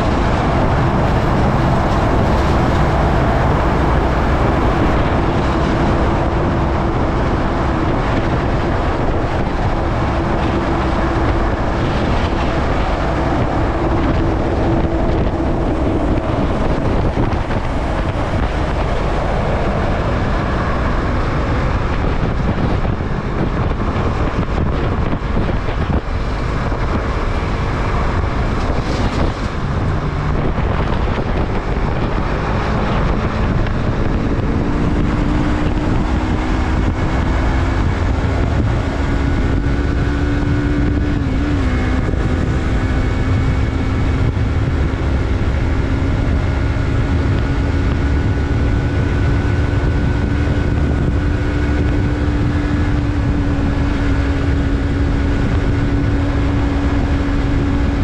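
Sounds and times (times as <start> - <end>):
motorcycle engine running: 0.0 - 58.0
road noise: 0.0 - 58.0
wind rushing over microphone: 0.0 - 58.0.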